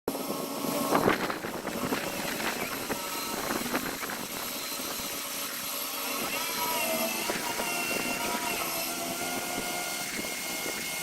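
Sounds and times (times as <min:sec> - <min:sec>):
diesel engine running: 0:00.4 - 0:11.0.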